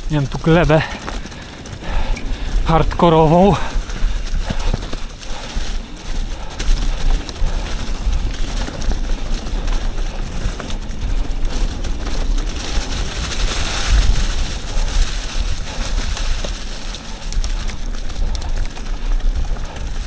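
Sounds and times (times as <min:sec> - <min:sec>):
bike clicks and rattles: 0:00.0 - 0:20.0
mountain bike tyre and trail noise: 0:00.0 - 0:20.0
wind buffeting microphone: 0:00.0 - 0:20.0.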